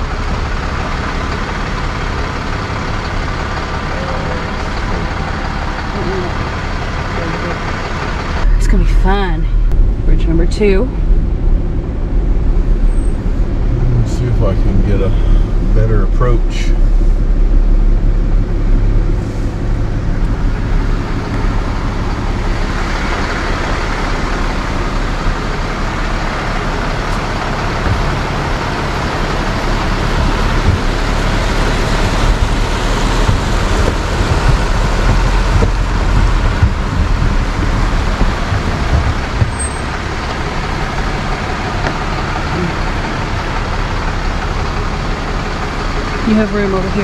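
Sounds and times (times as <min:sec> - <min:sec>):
truck engine running: 0:00.0 - 0:47.0
tyre and road noise: 0:00.0 - 0:47.0.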